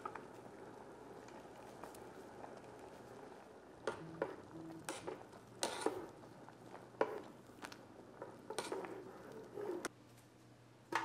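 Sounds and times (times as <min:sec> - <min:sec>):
boiling water bubbling: 0:00.0 - 0:09.9.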